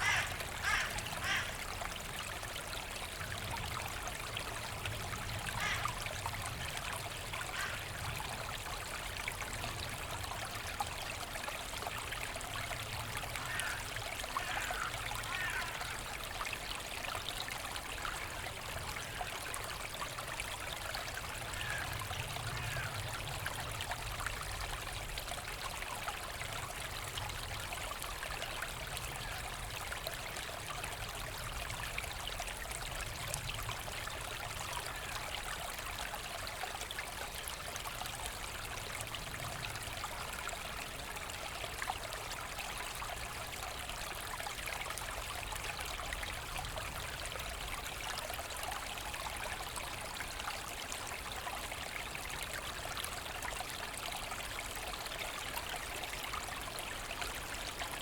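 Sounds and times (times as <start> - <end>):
brook trickling and babbling: 0.0 - 58.0.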